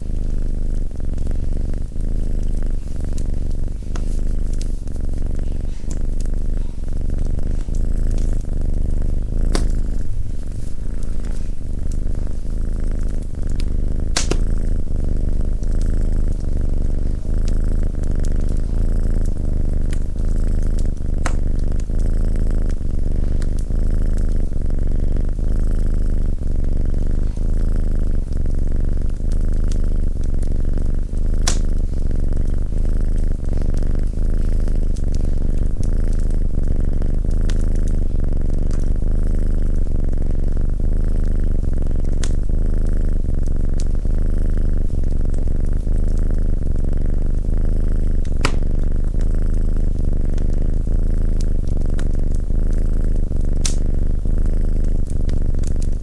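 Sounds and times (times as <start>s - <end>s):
wood fire crackling: 0.0s - 40.8s, 41.6s - 46.6s, 50.8s - 56.0s
cat purring: 0.0s - 56.0s.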